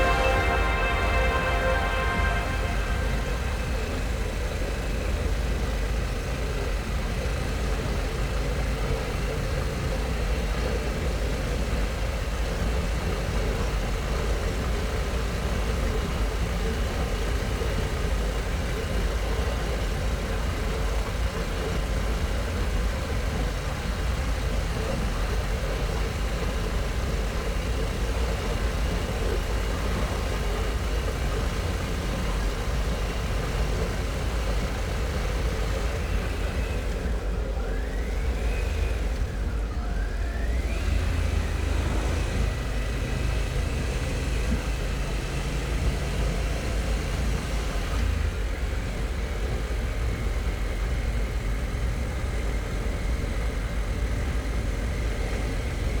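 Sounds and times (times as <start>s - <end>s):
motorcycle engine at road speed: 3.4s - 56.0s.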